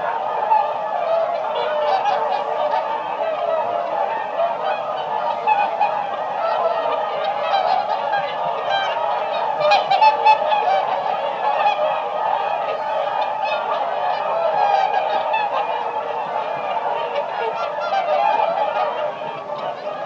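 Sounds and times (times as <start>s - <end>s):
swans calling: 0.0s - 20.0s.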